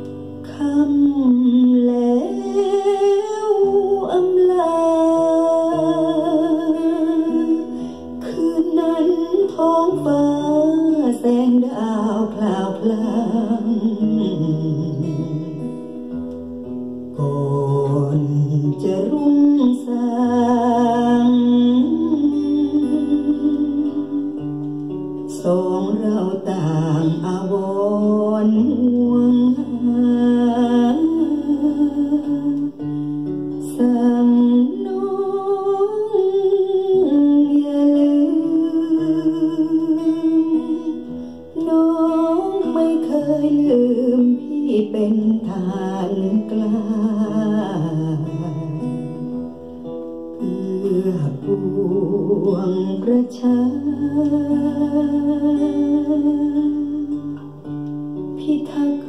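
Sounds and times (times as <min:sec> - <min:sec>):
plucked guitar: 0:00.0 - 0:59.0.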